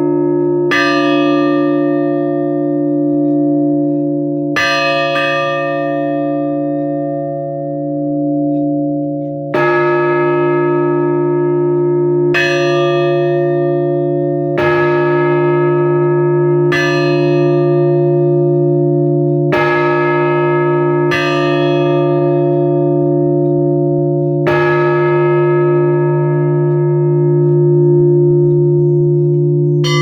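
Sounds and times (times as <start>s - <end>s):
church bells tolling: 0.0s - 30.0s.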